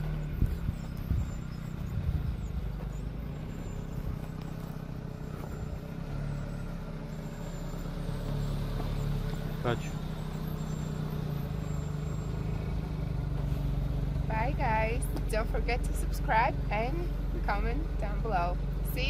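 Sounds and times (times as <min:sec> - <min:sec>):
car thumps on rutted track: 0:00.0 - 0:15.8
car engine running: 0:00.0 - 0:19.0.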